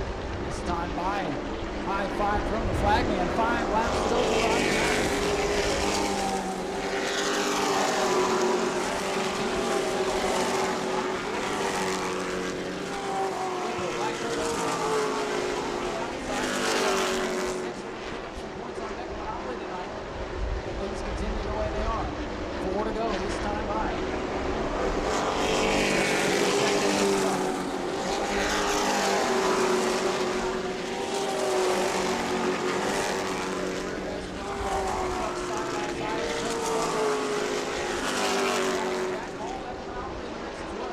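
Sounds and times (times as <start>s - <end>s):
racing truck engines passing: 0.0s - 18.4s, 22.2s - 40.7s.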